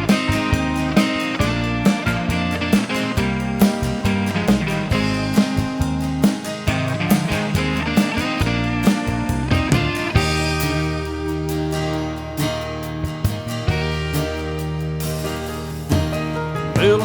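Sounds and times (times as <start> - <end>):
instrumental country music: 0.0 - 17.0.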